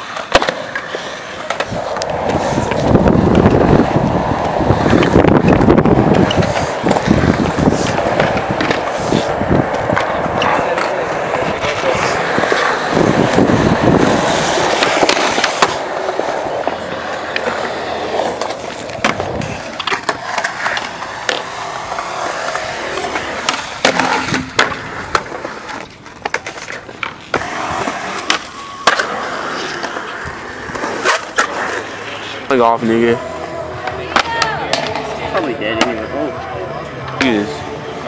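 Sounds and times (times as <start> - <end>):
skateboard clacking on ground: 0.0 - 33.2, 33.8 - 38.0
skateboard wheels rolling on concrete: 0.0 - 38.0.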